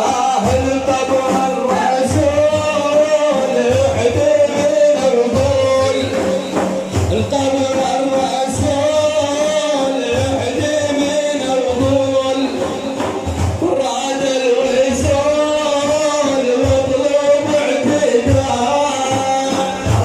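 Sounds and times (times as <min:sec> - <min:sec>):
frame drums beating: 0:00.0 - 0:20.0
man singing: 0:00.0 - 0:20.0.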